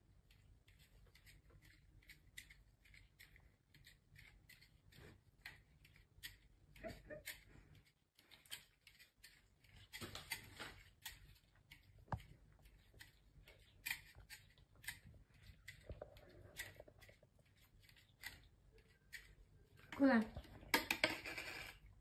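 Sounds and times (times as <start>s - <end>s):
cat licking metal bowl: 0.0s - 19.7s.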